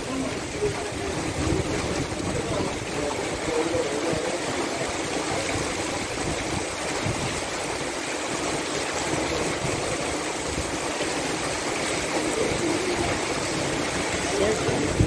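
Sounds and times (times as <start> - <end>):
hail and heavy rain falling: 0.0 - 15.0.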